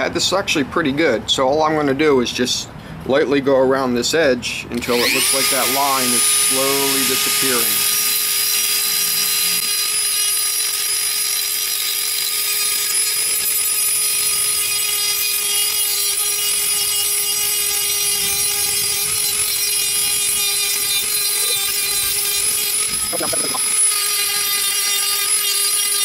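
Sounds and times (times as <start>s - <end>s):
rotary tool whining: 4.7s - 26.0s.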